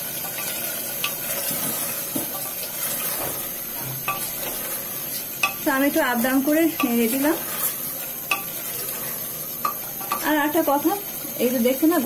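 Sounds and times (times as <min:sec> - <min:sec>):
food sizzling in pot: 0:00.0 - 0:12.0
spatula scraping and knocking pot: 0:00.2 - 0:10.4.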